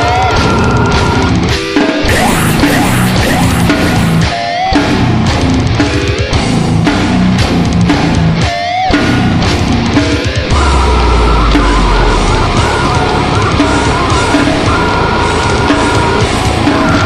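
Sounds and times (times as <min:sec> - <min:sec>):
heavy metal song with loud guitar: 0:00.0 - 0:17.0.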